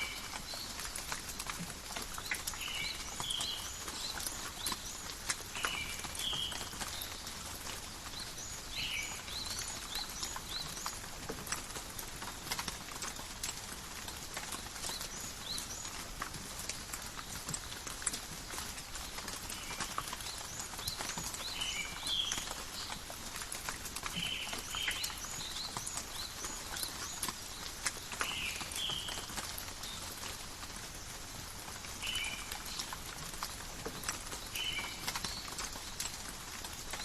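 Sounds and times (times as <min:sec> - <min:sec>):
rain pattering in forest: 0:00.0 - 0:37.0
sharp water drips: 0:00.0 - 0:37.0.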